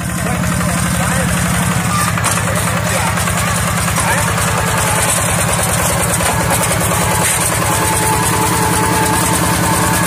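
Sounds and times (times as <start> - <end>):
diesel engine chugging: 0.0 - 10.0.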